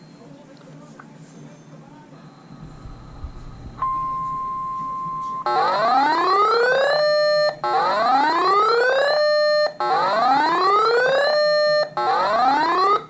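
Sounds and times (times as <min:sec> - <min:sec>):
electronic siren alarm: 0:02.5 - 0:13.0.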